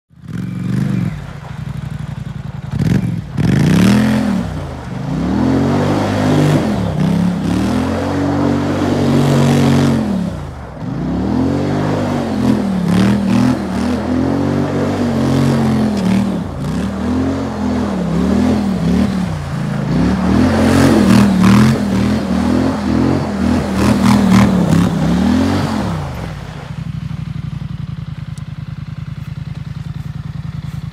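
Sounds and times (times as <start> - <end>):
atv engine revving and idling: 0.1 - 30.9
tyres scraping and spraying dirt: 0.2 - 27.7.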